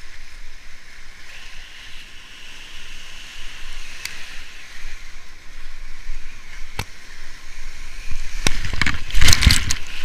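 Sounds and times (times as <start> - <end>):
whitewater rushing: 1.2 - 10.0
wind on microphone: 1.3 - 10.0.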